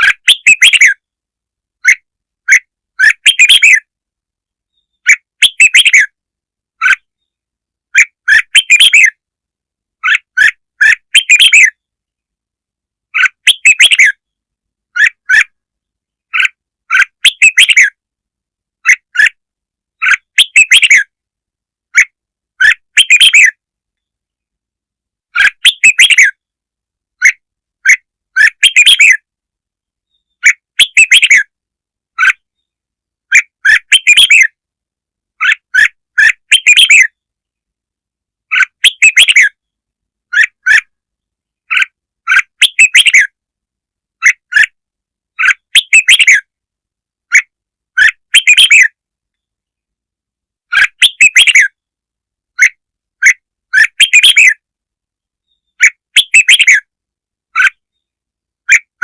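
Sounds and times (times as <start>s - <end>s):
bird chirping song: 0.0s - 1.2s, 1.8s - 9.3s, 10.0s - 18.2s, 18.8s - 24.6s, 25.3s - 34.6s, 35.3s - 37.7s, 38.4s - 43.4s, 44.2s - 46.6s, 47.3s - 49.9s, 50.7s - 51.9s, 52.5s - 59.0s.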